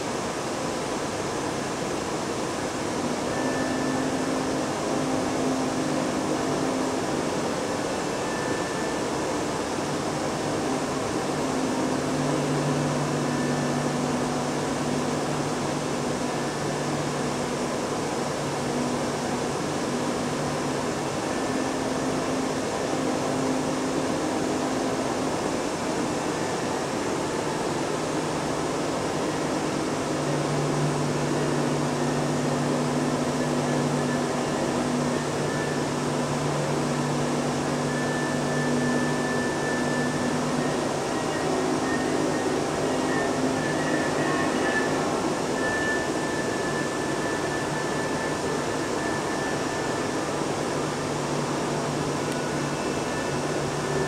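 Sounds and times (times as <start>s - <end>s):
low held hums: 0.0s - 54.0s
ventilation rushing: 0.0s - 54.0s.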